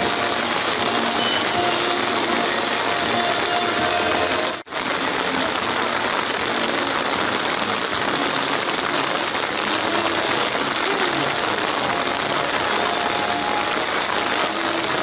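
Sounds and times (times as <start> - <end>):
rain falling on wet ground: 0.0 - 15.0.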